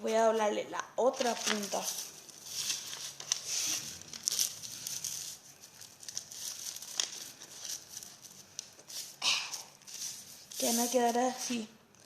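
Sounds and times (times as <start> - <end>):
paper folding and crinkling: 1.0 - 12.0.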